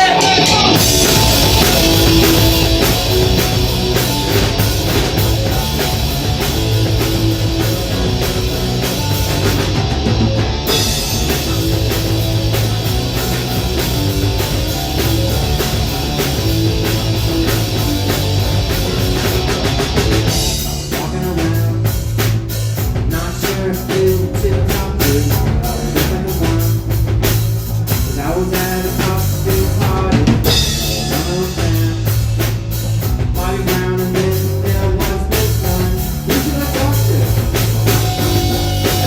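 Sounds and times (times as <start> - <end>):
heavy rock band playing: 0.0 - 39.0.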